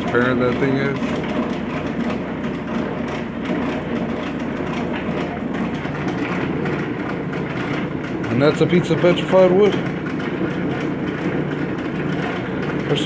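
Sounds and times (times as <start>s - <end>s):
machine rumbling and clattering: 0.0s - 13.0s.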